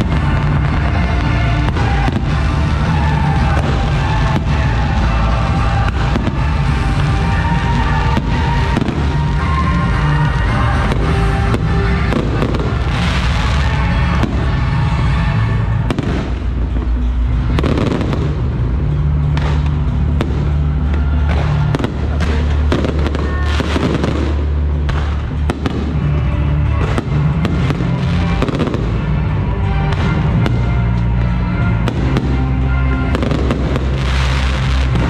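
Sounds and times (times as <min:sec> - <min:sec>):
fireworks bursting: 0:00.0 - 0:35.0
fireworks crackling: 0:00.0 - 0:35.0
loud music with bass: 0:00.0 - 0:35.0.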